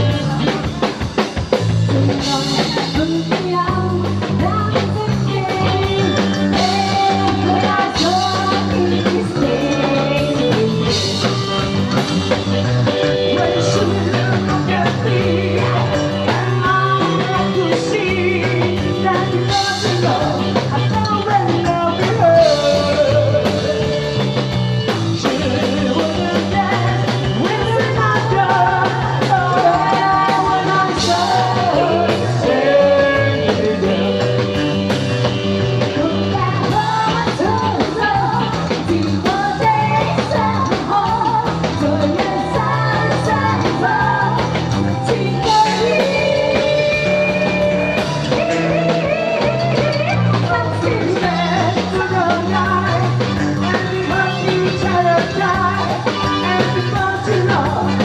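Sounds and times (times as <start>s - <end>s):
band playing: 0.0s - 58.0s
person singing rock and roll: 0.0s - 58.0s
steady drum beat: 0.0s - 58.0s.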